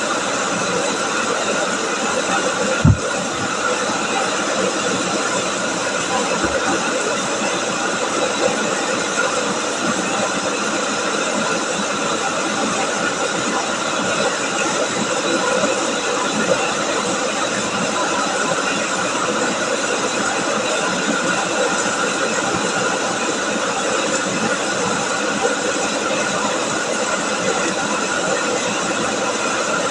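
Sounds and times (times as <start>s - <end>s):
rice milling machine running: 0.0s - 29.9s.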